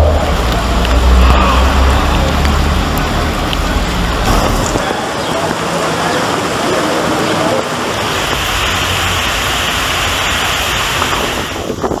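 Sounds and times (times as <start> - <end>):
rushing floodwater: 0.0 - 12.0
torrential rain: 0.0 - 12.0.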